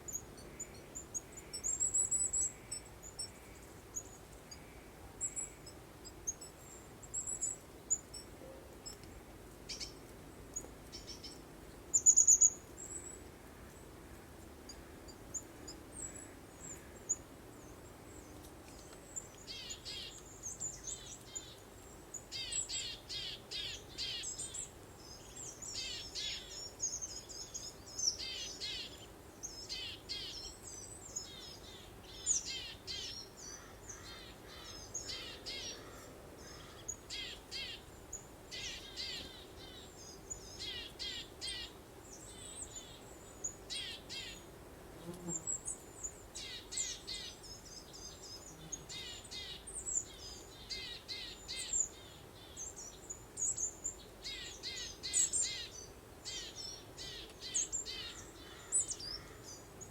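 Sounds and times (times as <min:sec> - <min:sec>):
soft breeze: 0:00.0 - 0:59.9.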